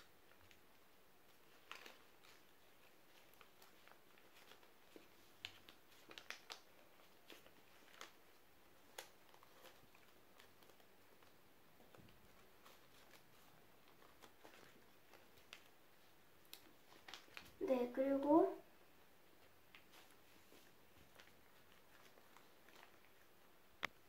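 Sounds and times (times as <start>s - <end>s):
paper taps and rustles: 1.3s - 15.8s, 16.4s - 17.6s, 19.4s - 23.2s.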